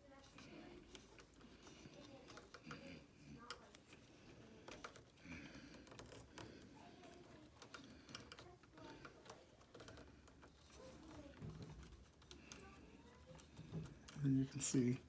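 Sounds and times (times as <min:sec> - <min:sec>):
cable rustling: 0:00.0 - 0:15.0
small plastic clicks: 0:00.2 - 0:14.6.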